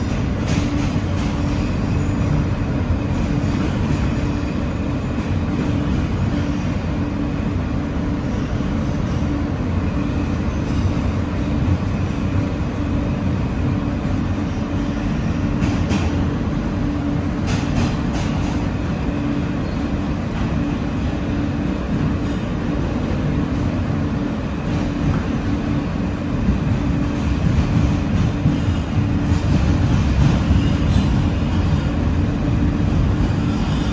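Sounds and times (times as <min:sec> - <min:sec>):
subway car rumbling in tunnel: 0:00.0 - 0:33.9.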